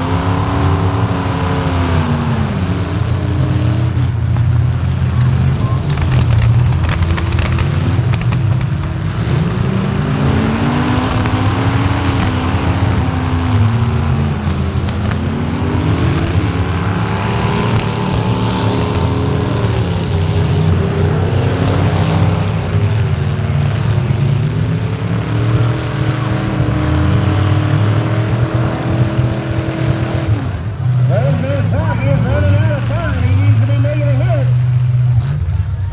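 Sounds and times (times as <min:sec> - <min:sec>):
truck engines revving: 0:00.0 - 0:35.9.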